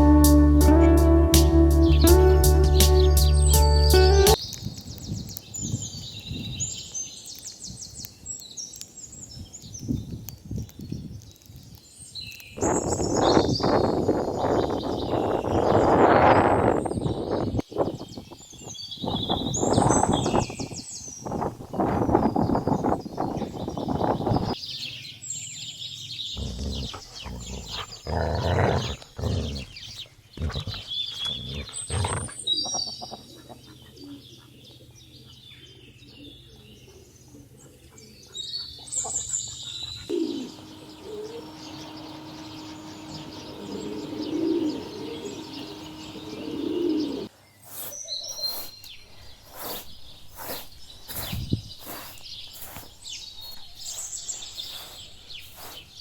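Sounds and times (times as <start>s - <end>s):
small birds chirping: 0.9s - 56.0s.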